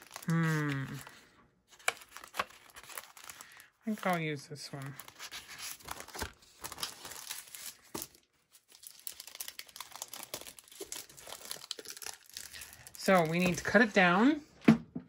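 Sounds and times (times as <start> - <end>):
paper rustling and crinkling: 0.0 - 13.8.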